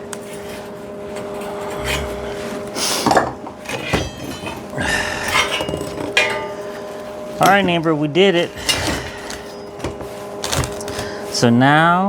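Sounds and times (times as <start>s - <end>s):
steady hum: 0.0s - 11.6s
metal clinking and knocking: 1.1s - 11.1s.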